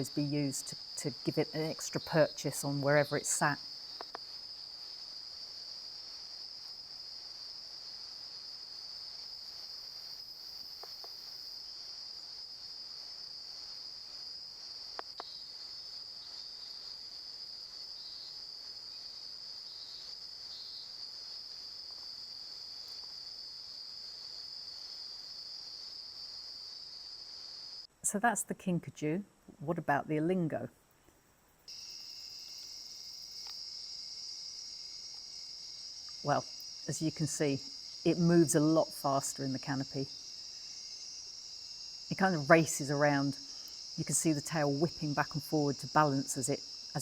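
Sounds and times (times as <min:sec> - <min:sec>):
night insects chorus: 0:00.0 - 0:28.0, 0:31.6 - 0:47.0.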